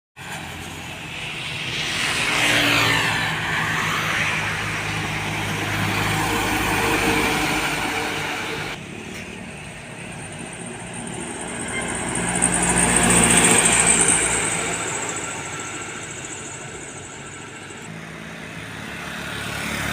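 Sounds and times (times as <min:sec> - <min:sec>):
high whine: 0:00.2 - 0:18.2
heavy diesel vehicles passing: 0:00.2 - 0:19.9.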